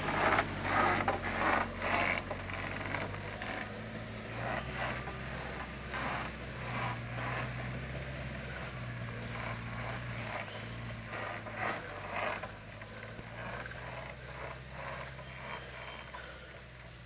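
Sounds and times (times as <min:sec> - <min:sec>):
creaking and rattling: 0:00.0 - 0:17.0
pickup engine humming: 0:00.0 - 0:17.0.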